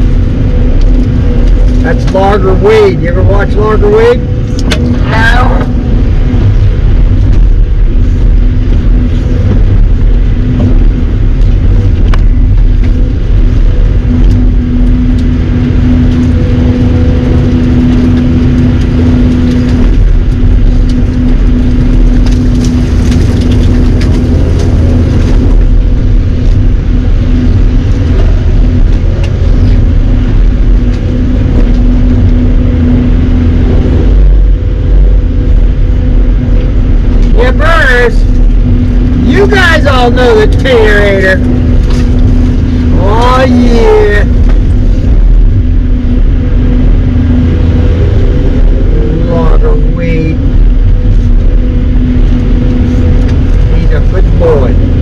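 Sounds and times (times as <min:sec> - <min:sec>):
engine running with low drone: 0:00.0 - 0:55.0.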